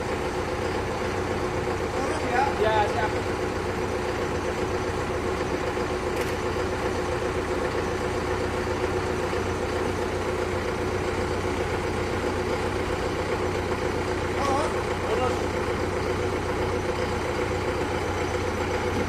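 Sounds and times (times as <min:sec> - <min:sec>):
combine harvester engine running: 0:00.0 - 0:19.0.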